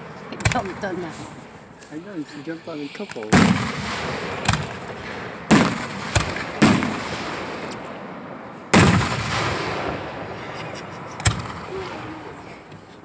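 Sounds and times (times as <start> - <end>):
fireworks booming: 0.0 - 1.8, 3.0 - 13.0.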